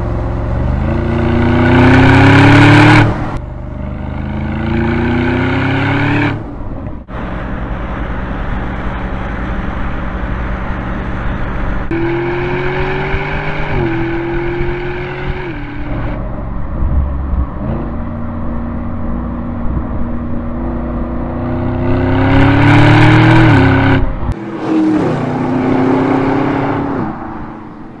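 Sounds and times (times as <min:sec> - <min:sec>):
car engine accelerating through gears: 0:00.0 - 0:06.4, 0:11.8 - 0:28.0.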